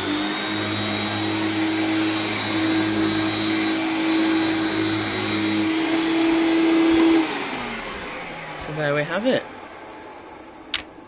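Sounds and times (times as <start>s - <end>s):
vacuum cleaner running: 0.0s - 10.7s.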